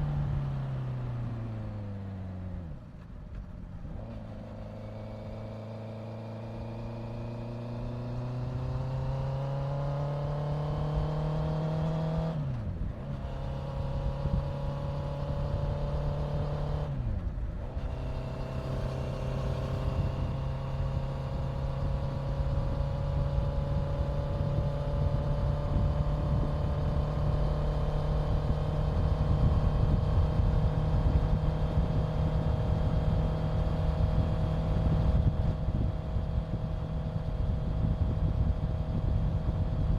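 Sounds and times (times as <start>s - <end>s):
motorcycle engine accelerating: 3.8s - 39.9s.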